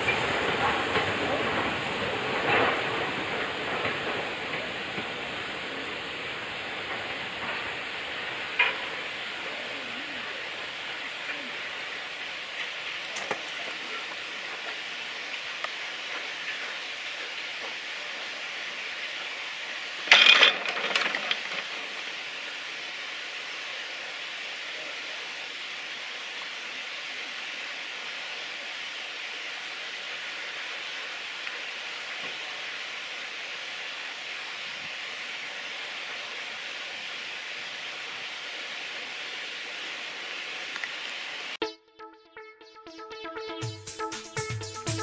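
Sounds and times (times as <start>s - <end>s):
steam hiss: 0.0s - 41.6s
steam locomotive hauling train: 0.0s - 41.6s.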